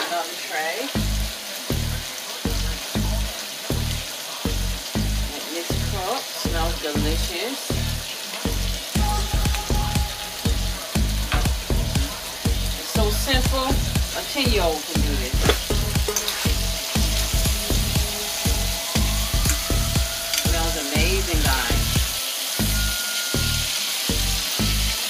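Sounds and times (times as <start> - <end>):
bacon sizzling in a frying pan: 0.0 - 25.0
steady low beat: 1.0 - 5.9, 7.7 - 24.6.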